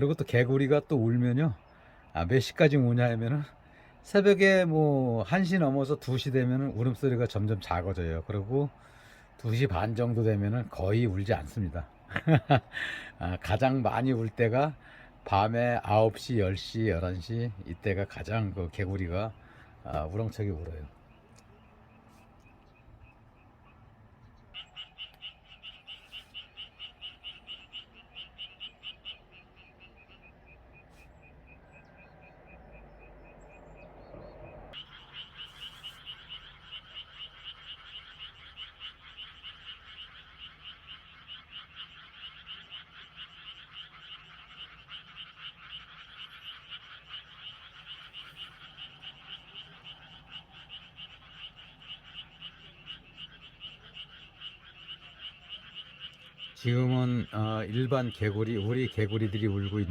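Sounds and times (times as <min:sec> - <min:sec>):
chorus of frogs croaking: 0:00.0 - 0:59.9.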